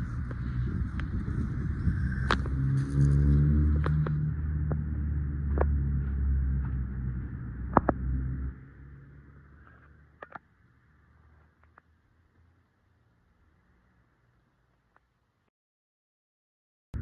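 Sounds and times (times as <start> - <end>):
vehicle engine rumbling: 0.0 - 14.5.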